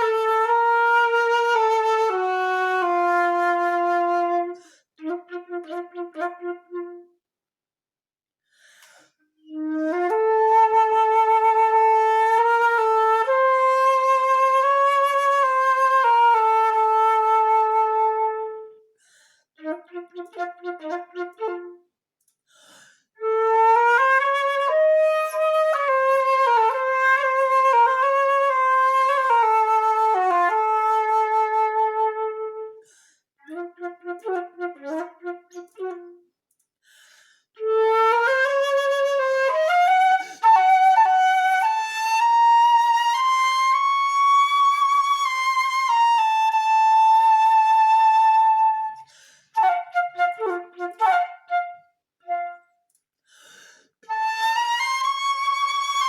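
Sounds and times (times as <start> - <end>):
solo flute playing: 0.0 - 7.2, 9.4 - 18.9, 19.6 - 21.9, 23.2 - 32.8, 33.4 - 36.3, 37.6 - 52.9, 54.0 - 56.0.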